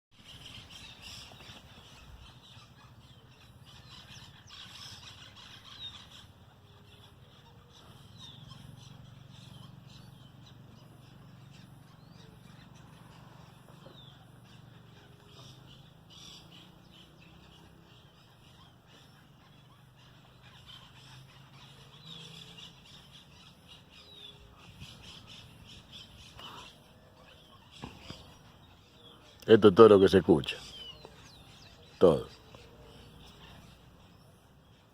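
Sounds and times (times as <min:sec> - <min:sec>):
birds chirping faintly: 0:00.1 - 0:34.9
low steady rumble: 0:00.2 - 0:29.4.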